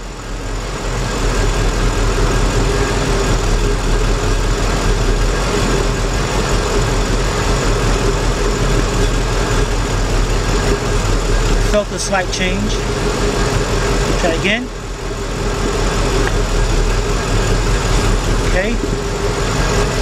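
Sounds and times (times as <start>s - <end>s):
engine idling roughly: 0.0s - 20.0s
steady whine: 0.0s - 20.0s.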